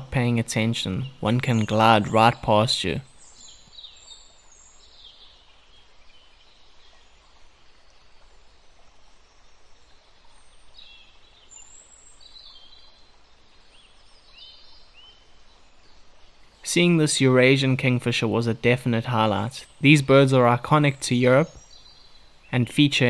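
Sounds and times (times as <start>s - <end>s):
birds chirping: 0.0s - 23.0s
low background noise: 0.0s - 23.0s.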